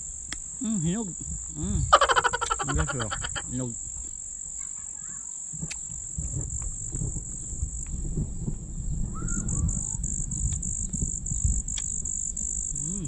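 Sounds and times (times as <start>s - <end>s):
low rumbling: 0.0s - 4.2s, 5.8s - 13.0s
insects droning: 0.0s - 13.0s.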